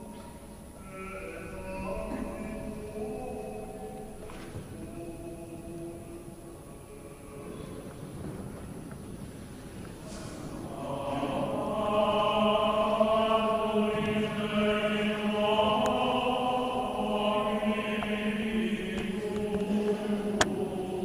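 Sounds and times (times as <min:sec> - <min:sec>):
voices chanting held notes: 0:00.0 - 0:08.1, 0:10.0 - 0:21.0.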